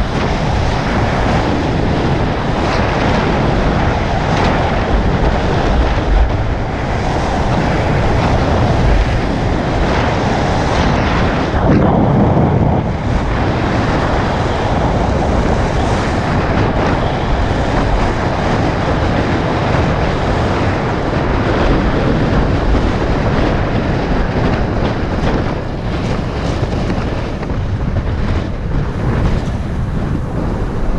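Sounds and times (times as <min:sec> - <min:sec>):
low road rumble: 0:00.0 - 0:30.9
wind buffeting microphone: 0:00.0 - 0:30.9.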